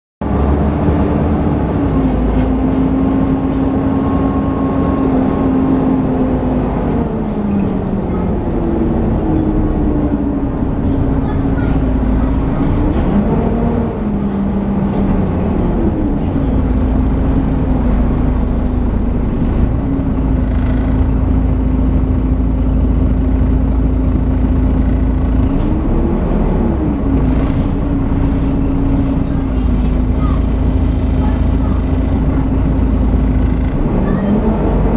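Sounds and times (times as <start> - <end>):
bus engine whining: 0.2 - 34.9
low engine rumble: 0.2 - 34.9.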